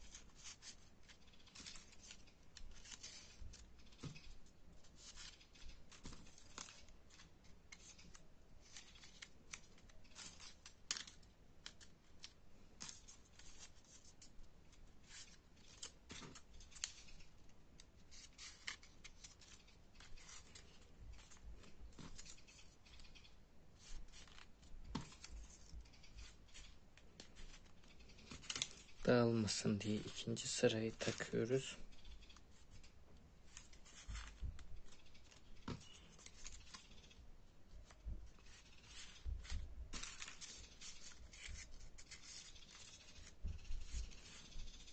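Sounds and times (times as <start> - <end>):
paper crinkling and rustling: 0.0 - 44.9.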